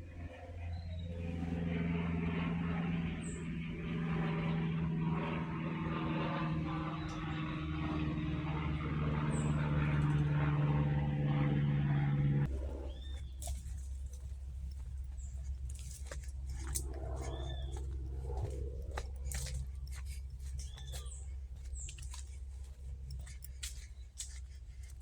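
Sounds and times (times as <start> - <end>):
motor engine humming: 0.0 - 25.0.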